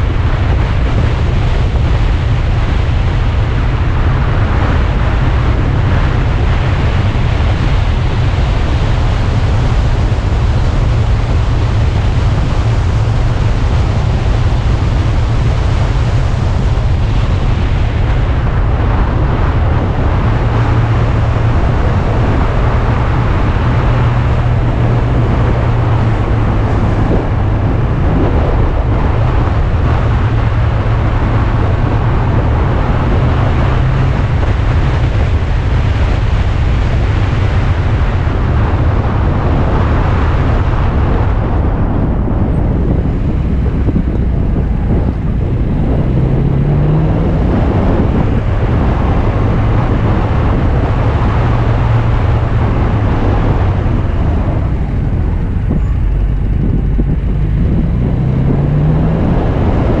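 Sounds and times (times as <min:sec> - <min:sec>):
car engine running: 0:00.0 - 1:00.0
wind and road noise: 0:00.0 - 1:00.0.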